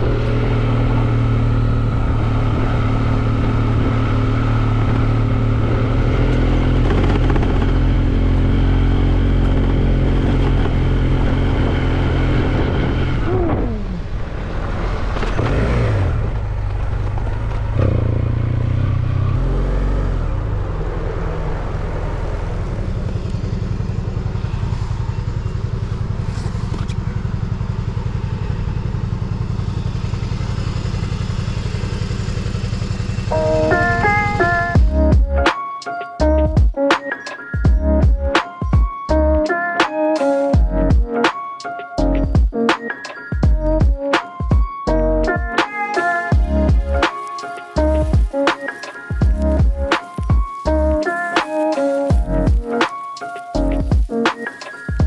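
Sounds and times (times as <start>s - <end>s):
motorcycle engine running: 0.0s - 35.5s, 36.2s - 36.8s, 37.6s - 39.6s, 40.6s - 41.3s, 42.0s - 42.6s, 43.4s - 45.6s, 46.3s - 55.0s.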